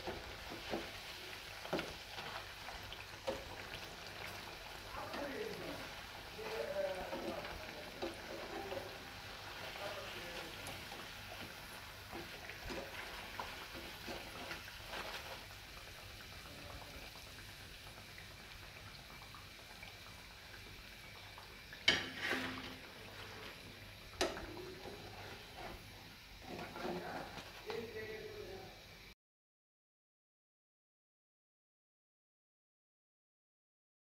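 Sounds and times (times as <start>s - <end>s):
hot oil sizzling and crackling: 0.0s - 29.2s.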